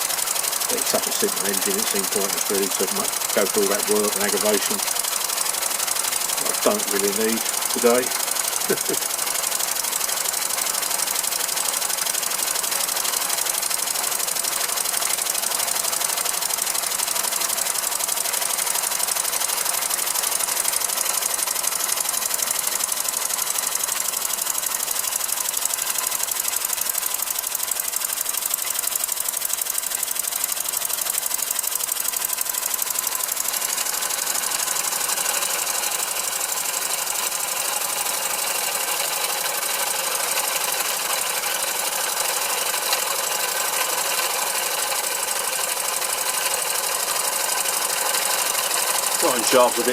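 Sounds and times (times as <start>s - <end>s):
model engine mechanical clatter: 0.0s - 49.9s.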